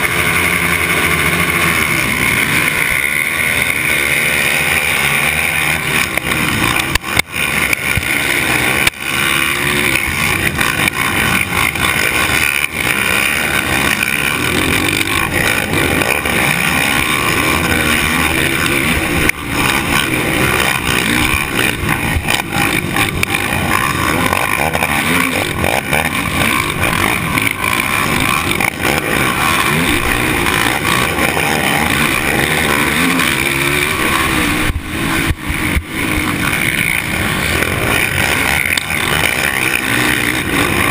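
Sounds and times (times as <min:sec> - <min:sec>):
motocross bike engine racing: 0:00.0 - 0:40.9.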